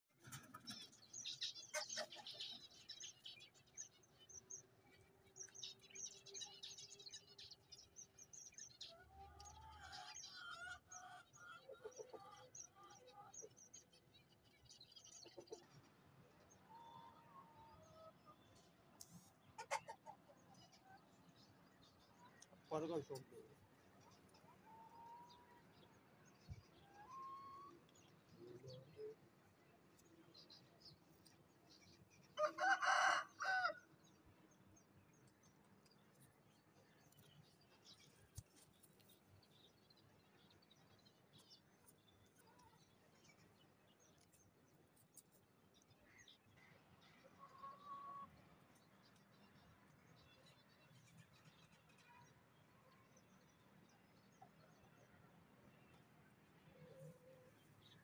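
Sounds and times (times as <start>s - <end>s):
small birds chirping: 0.1s - 15.9s, 17.9s - 58.0s.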